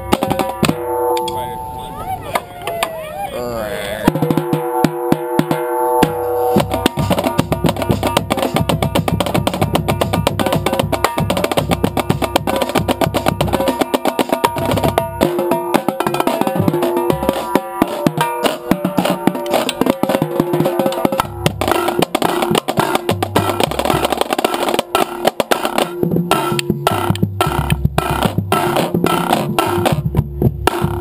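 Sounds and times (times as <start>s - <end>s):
tenor drums playing: 0.0s - 3.0s, 3.9s - 31.0s
bass drum notes: 4.0s - 31.0s.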